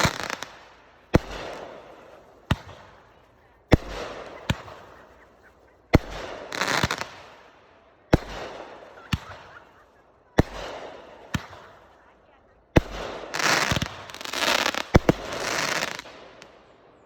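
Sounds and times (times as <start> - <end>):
fireworks bangs: 0.0 - 12.0, 12.8 - 16.6
fireworks crackling and hissing: 0.0 - 16.7.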